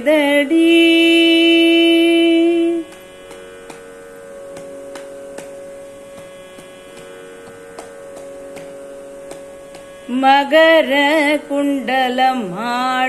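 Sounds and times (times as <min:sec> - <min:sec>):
plucked drone: 0:00.0 - 0:13.0.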